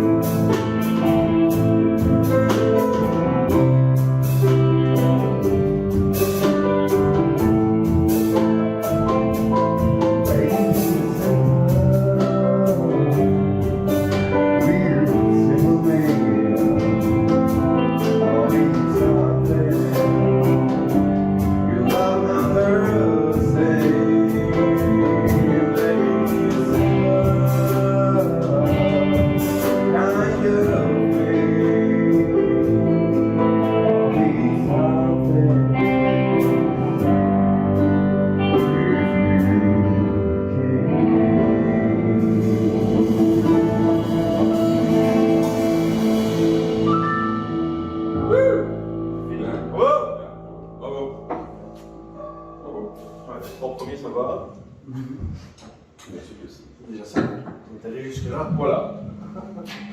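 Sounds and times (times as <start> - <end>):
person singing: 0.0 - 50.4
rock band playing: 0.0 - 53.8, 58.6 - 59.9.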